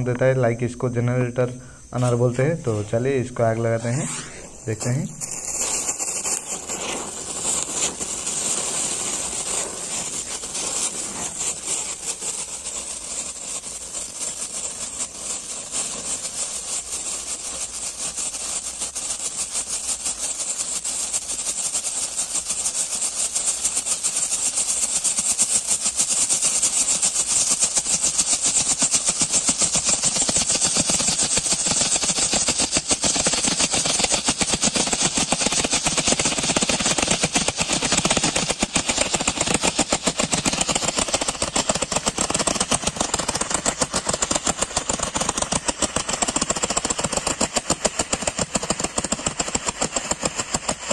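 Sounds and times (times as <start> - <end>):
fountain fireworks hissing and sputtering: 0.0 - 50.9.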